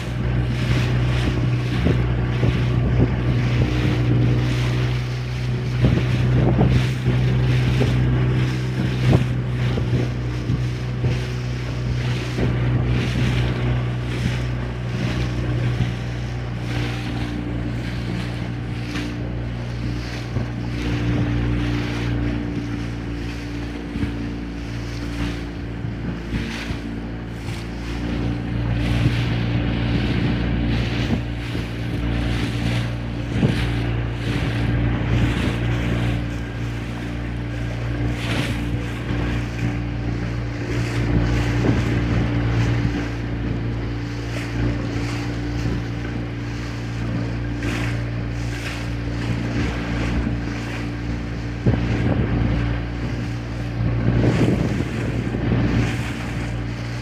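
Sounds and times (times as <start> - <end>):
boat engine running: 0.0 - 57.0
water slapping against hull: 0.0 - 57.0
wind buffeting microphone: 0.0 - 57.0.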